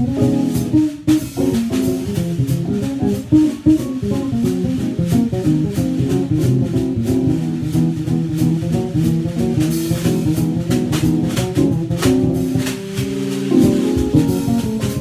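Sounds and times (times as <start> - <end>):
bass notes: 0.0 - 15.0
drum kit strokes: 0.0 - 15.0
keyboard chords: 0.0 - 15.0.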